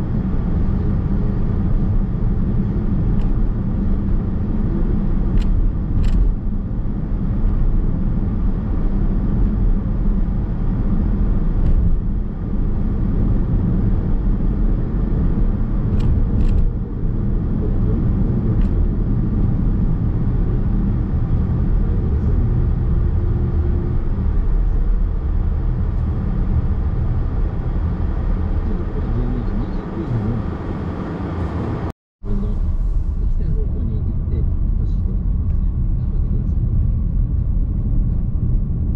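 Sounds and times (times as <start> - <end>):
tyre and road noise: 0.0 - 38.9.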